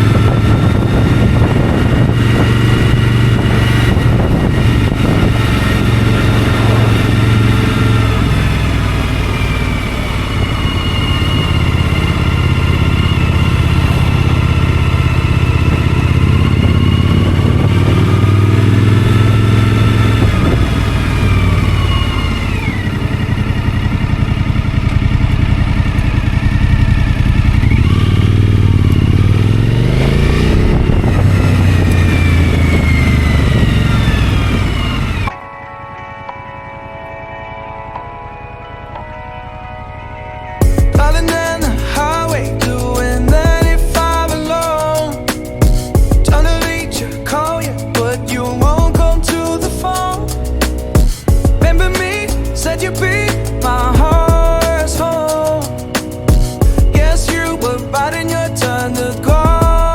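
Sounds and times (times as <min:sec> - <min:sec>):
motorcycle engine revving: 0:00.0 - 0:35.4, 0:37.8 - 0:59.9.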